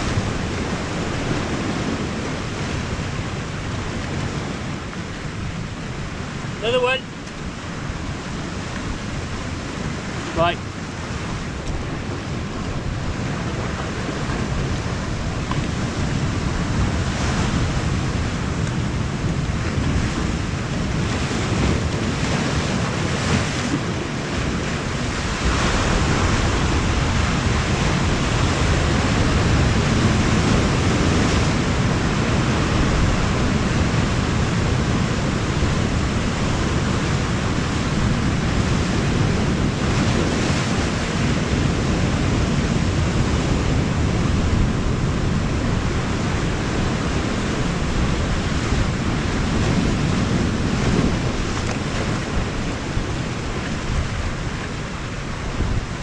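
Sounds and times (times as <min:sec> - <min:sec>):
sea surf washing in: 0:00.0 - 0:56.0
wind buffeting microphone: 0:00.0 - 0:56.0.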